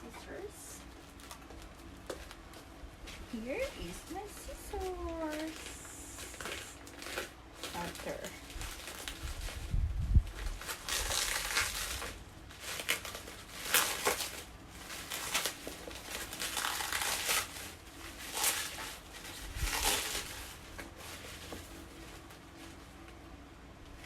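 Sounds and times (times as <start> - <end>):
parcel wrapping crinkling: 0.3 - 23.2.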